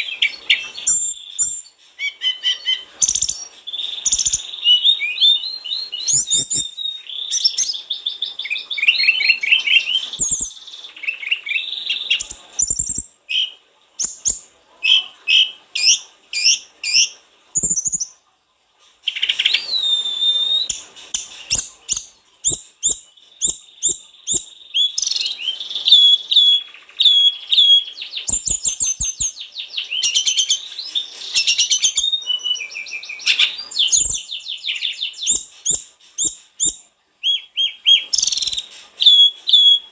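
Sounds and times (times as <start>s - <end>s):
bird singing chirps and trills: 0.0s - 18.2s, 19.1s - 39.9s.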